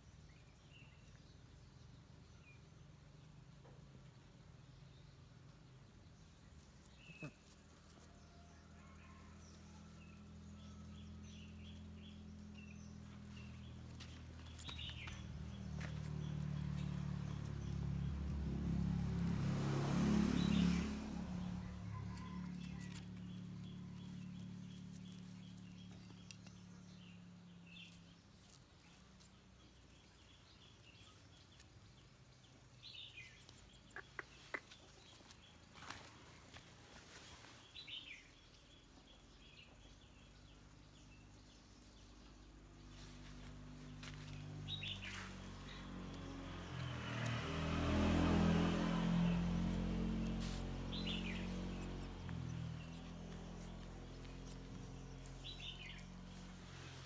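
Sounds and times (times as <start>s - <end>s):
small birds chirping: 0.0s - 57.0s
passing engine hum: 5.7s - 57.0s.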